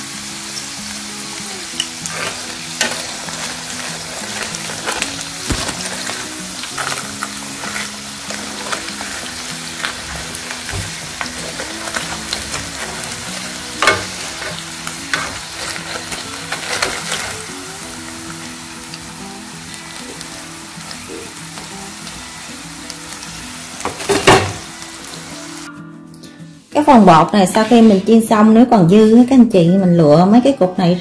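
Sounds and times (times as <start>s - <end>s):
chicken deep-frying in oil: 0.0s - 25.7s.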